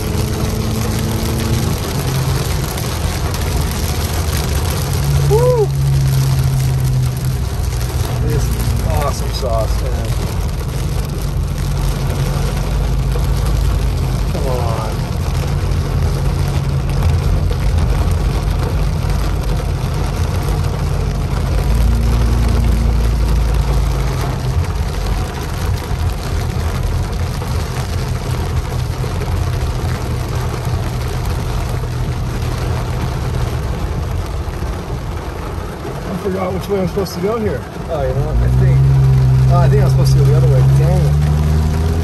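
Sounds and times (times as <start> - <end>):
deep low rumble: 0.0 - 36.1, 37.6 - 42.0
car engine and road hum: 0.0 - 42.0
rain hitting windshield and roof: 0.0 - 42.0.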